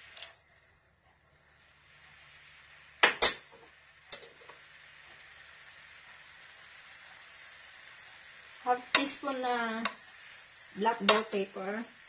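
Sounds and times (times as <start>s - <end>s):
sauce sizzling: 0.0s - 12.0s.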